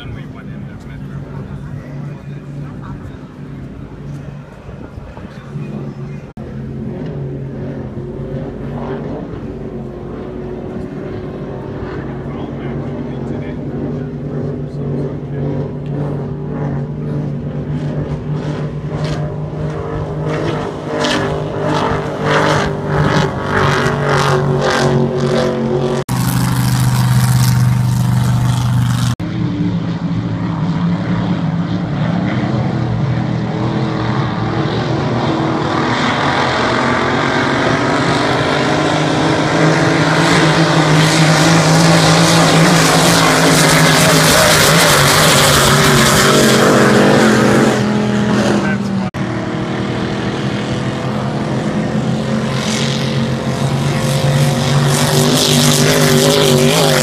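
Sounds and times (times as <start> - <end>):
powerboat engines droning: 0.0 - 57.0.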